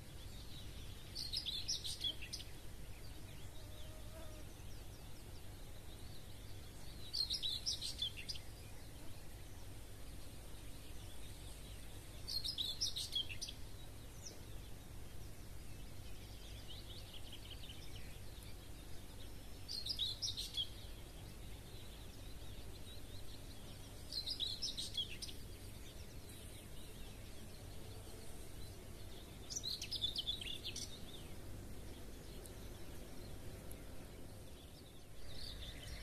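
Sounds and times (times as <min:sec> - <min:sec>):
songbird singing short phrases: 0:00.1 - 0:09.7, 0:10.7 - 0:36.0.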